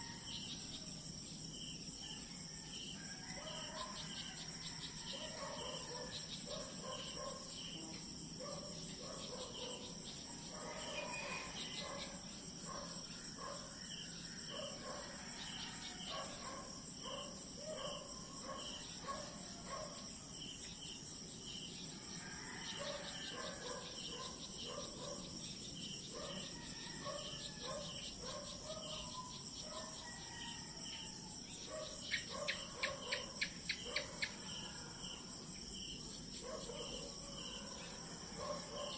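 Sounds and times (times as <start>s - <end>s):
insect chorus drone and chirps: 0.0s - 38.9s.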